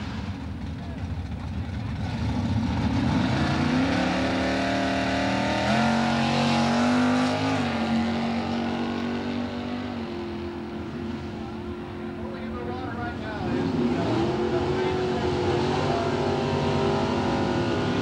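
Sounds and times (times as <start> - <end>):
car engine revving and accelerating: 1.9 - 18.0.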